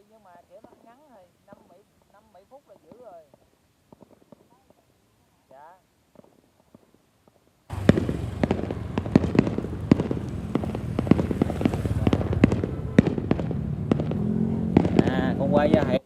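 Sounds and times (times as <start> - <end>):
fireworks crackling and bangs: 0.1 - 16.0.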